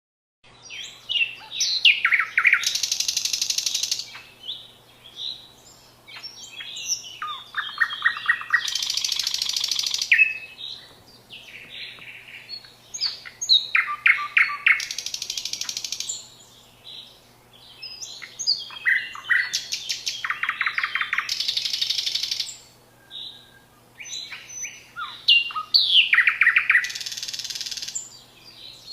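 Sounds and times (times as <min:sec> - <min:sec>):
songbird singing: 0:00.4 - 0:28.9.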